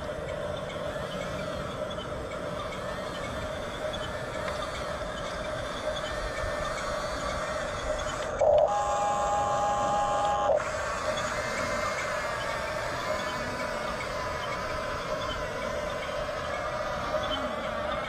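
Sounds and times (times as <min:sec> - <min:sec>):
steady multi-pitch tone: 0:00.0 - 0:18.0
toy motors whirring: 0:00.0 - 0:18.0.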